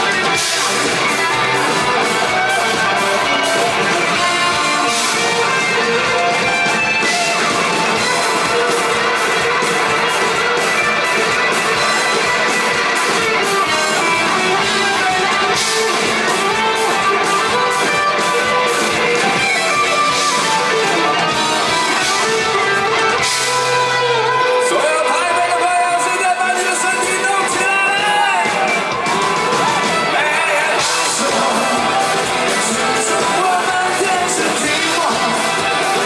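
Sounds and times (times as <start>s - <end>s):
drums: 0.0s - 36.0s
electric guitar: 0.0s - 36.0s
rock band playing live: 0.0s - 36.0s.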